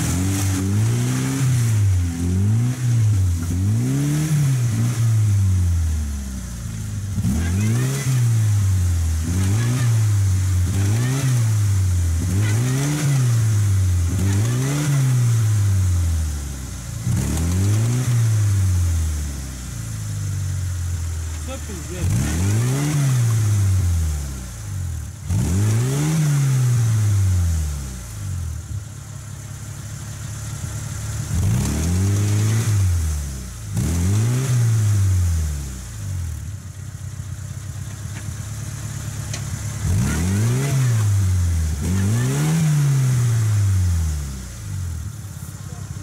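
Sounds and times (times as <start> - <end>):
car engine revving hard: 0.0 - 28.6, 30.4 - 36.6, 38.4 - 46.0.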